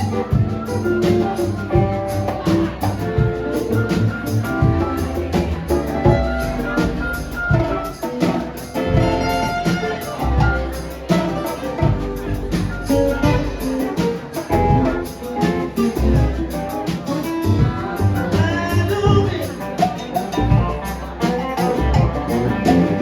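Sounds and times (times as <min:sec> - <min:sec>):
drum kit beat: 0:00.0 - 0:23.0
guitar: 0:00.0 - 0:23.0.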